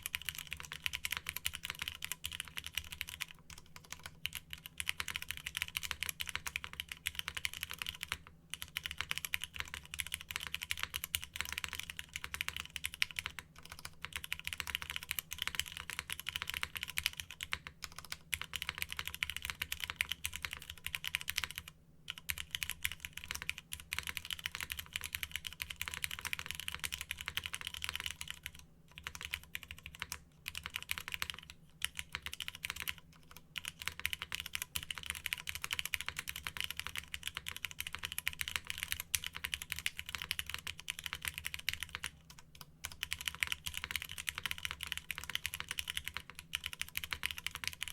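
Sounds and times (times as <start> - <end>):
mechanical keyboard typing: 0.0 - 47.9.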